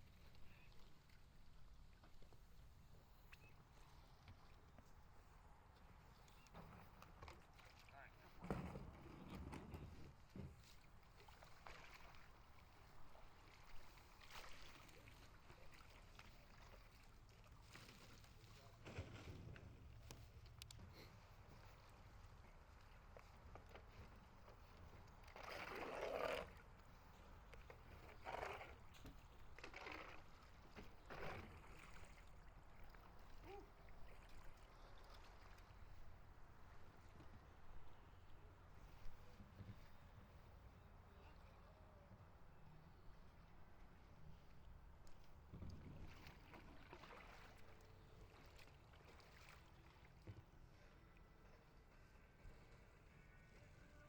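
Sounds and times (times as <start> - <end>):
paddle strokes in water: 0.0 - 54.0.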